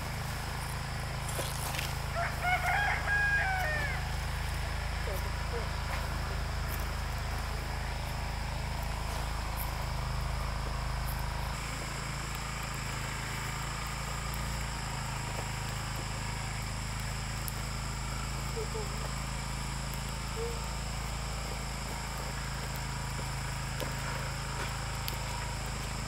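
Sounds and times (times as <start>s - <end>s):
continuous low hum: 0.0s - 26.0s
insects droning: 0.0s - 26.0s.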